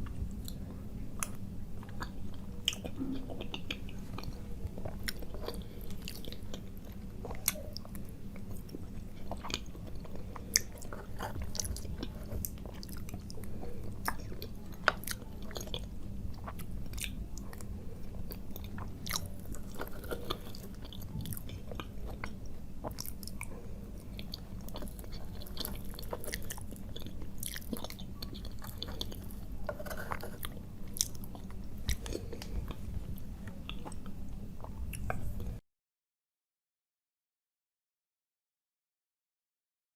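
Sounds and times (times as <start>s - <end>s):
person chewing food: 0.0s - 35.6s.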